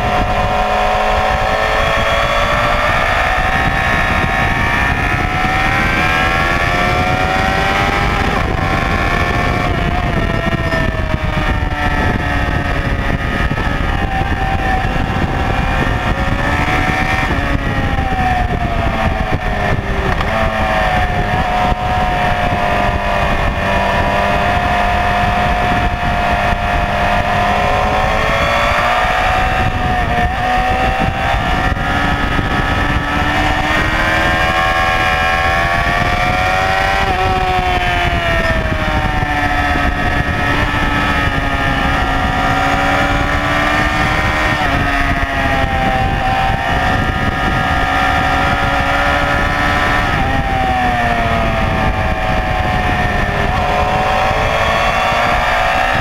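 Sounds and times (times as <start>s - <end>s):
motorcycle engine accelerating: 0.0s - 56.0s
wind on microphone: 0.0s - 56.0s.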